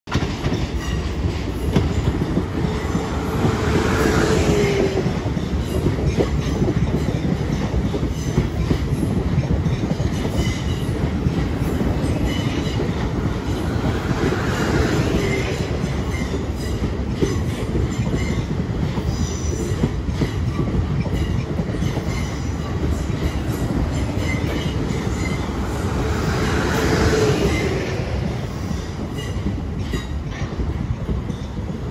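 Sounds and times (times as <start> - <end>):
train running gear squealing: 0.1 - 31.9
train wheels rumbling on rail: 0.1 - 31.9.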